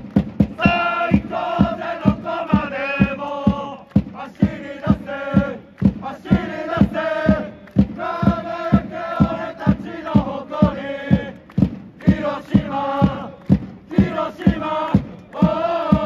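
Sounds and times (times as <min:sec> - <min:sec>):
crowd chanting in unison: 0:00.0 - 0:16.0
drum beating steadily: 0:00.0 - 0:16.0.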